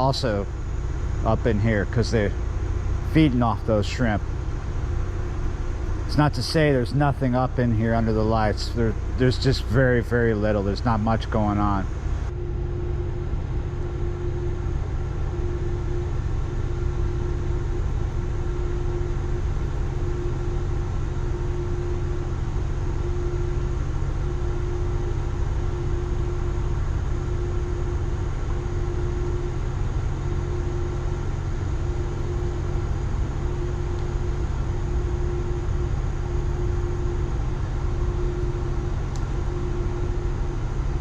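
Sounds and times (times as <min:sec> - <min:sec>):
ship engine drone: 0:00.0 - 0:41.0.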